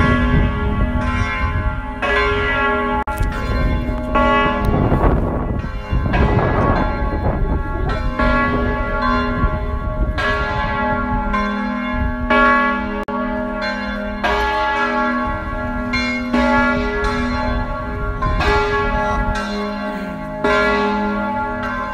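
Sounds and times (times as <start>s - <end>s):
church bells ringing: 0.0s - 21.9s.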